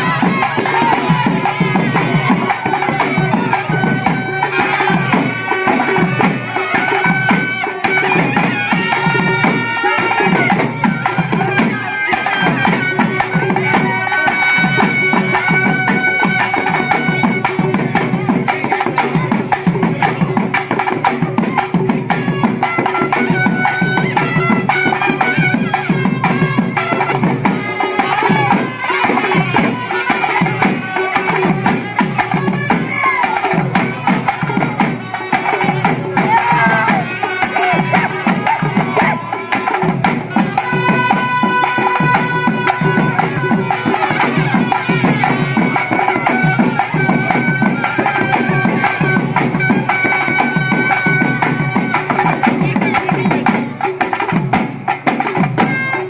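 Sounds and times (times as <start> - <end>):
wind instrument high notes: 0.0 - 19.2, 22.1 - 54.3, 55.3 - 56.0
frame drums beating fast: 0.0 - 56.0.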